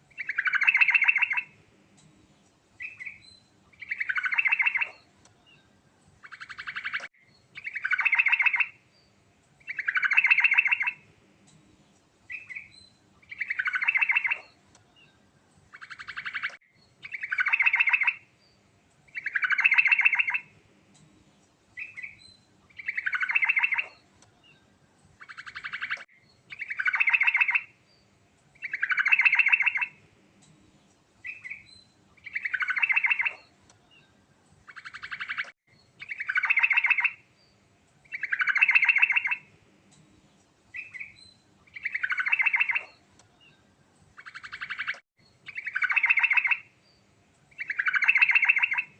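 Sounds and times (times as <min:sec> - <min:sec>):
bird singing trilled phrases: 0:00.1 - 0:01.6, 0:02.8 - 0:11.0, 0:12.3 - 0:20.5, 0:21.8 - 0:30.6, 0:31.2 - 0:48.9.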